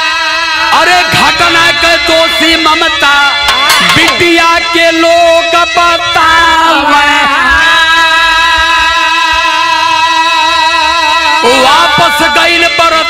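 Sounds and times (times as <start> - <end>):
harmonium: 0.0 - 13.0
dholak drum strokes: 0.8 - 13.0.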